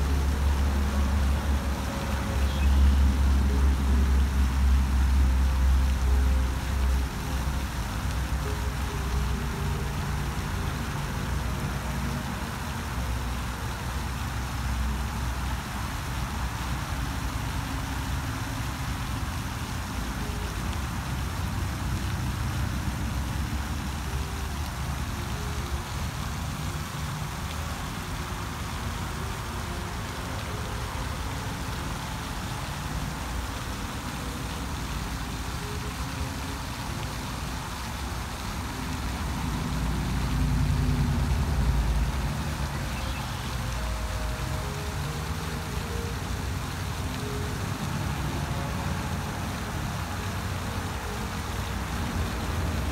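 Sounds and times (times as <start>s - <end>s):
fountain spray splashing on pond: 0.0s - 52.9s.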